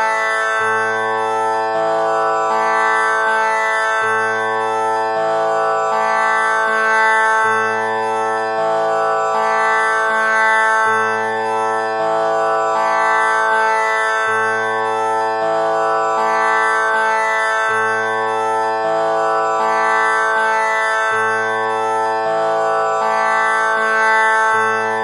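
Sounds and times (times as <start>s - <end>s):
tanpura drone: 0.0s - 25.0s.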